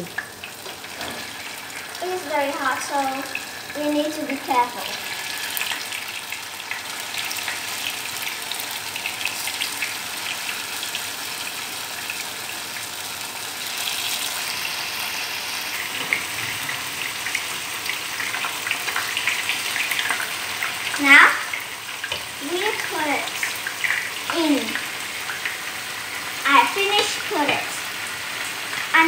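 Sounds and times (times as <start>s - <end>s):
tofu sizzling in hot oil: 0.0s - 29.0s.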